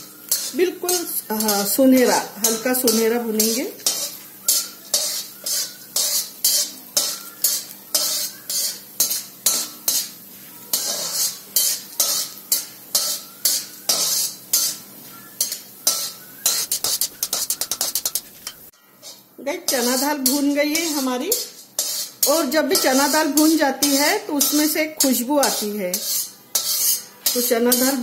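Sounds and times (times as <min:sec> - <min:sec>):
metal ladle scraping a pan: 0:00.0 - 0:28.0
oil sizzling faintly: 0:00.0 - 0:28.0.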